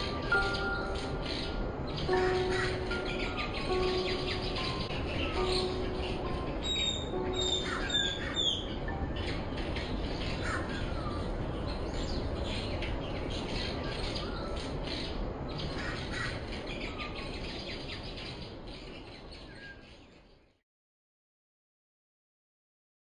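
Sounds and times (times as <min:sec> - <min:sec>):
birds chirping and whistling: 0:00.0 - 0:20.2
steady background hiss: 0:00.0 - 0:20.3.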